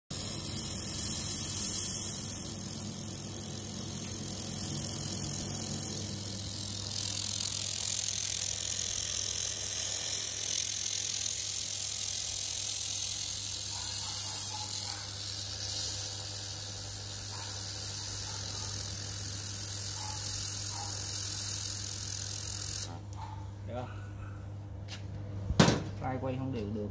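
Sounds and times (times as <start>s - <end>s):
laser welder high hiss: 0.1s - 23.0s
laser unit low hum: 0.1s - 24.8s.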